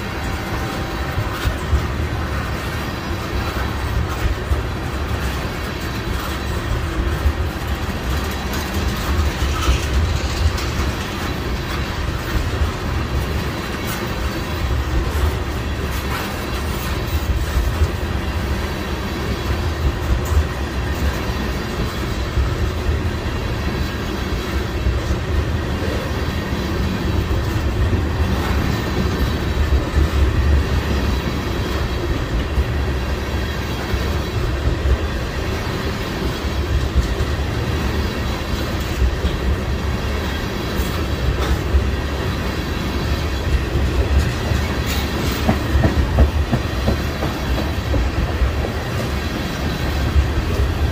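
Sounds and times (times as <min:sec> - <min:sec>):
train wheel clicks: 0:00.0 - 0:50.9
train wheels rumbling on rail: 0:00.0 - 0:50.9.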